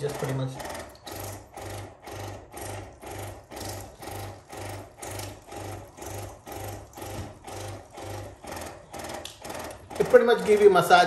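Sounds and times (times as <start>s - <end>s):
water flosser pulsing: 0.0s - 11.0s.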